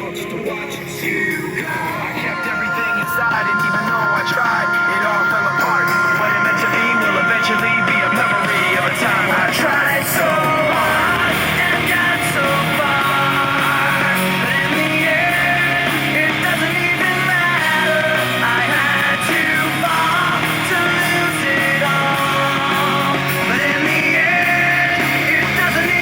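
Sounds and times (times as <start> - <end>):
rock music through a speaker: 0.0 - 26.0.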